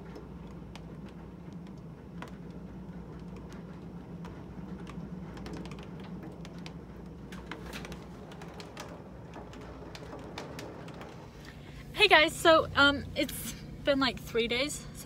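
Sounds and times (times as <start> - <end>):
rain tapping against a window: 0.0 - 13.7
low steady hum: 0.0 - 15.0.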